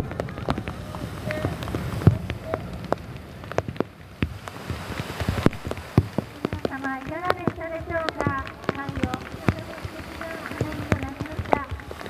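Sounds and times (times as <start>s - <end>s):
heavy rain: 0.0s - 12.0s
raindrops tapping a surface: 0.0s - 12.0s.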